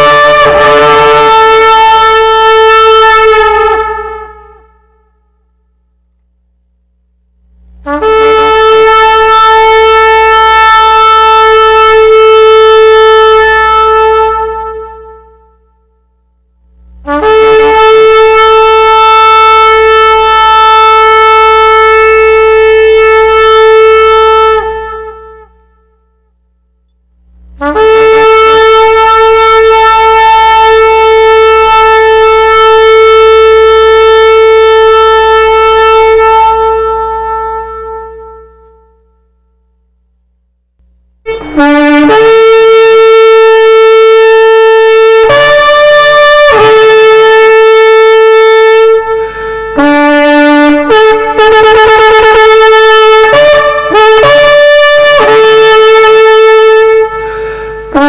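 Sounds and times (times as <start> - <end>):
horn blasts: 0.0 - 6.2, 7.4 - 40.0, 40.9 - 58.0.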